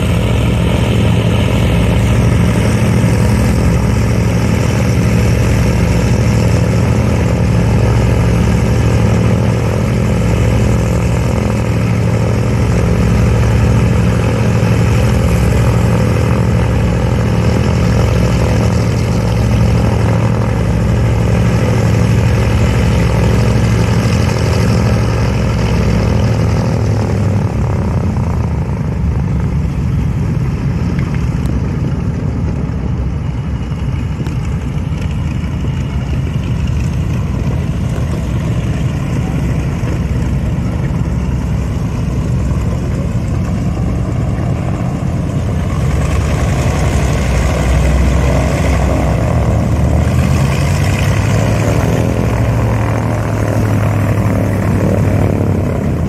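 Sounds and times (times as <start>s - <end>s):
aircraft radial engines running: 0.0s - 56.0s.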